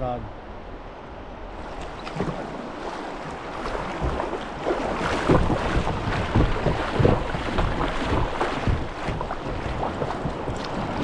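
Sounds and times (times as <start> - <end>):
river water rushing and splashing: 0.4 - 11.0.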